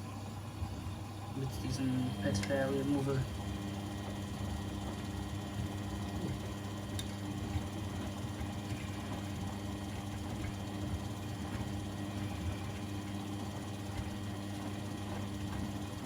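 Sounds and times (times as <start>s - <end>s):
laundry machine motor hum: 0.0s - 16.0s.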